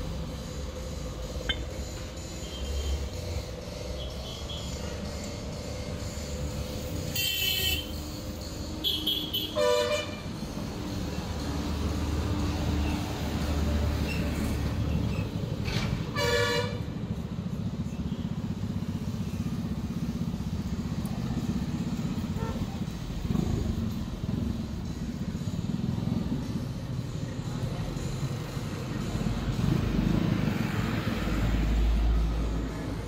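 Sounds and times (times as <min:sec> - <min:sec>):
engines rumbling low: 0:00.0 - 0:33.0.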